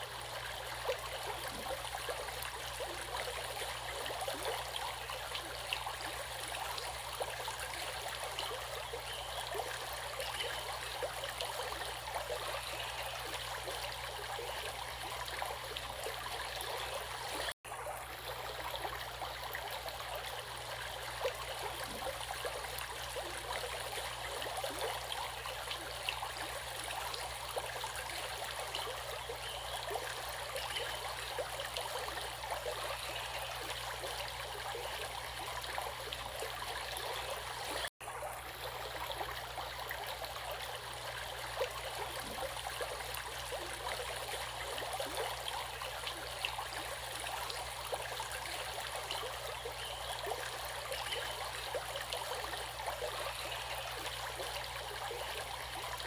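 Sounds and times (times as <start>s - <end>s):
stream of water babbling: 0.0s - 56.0s.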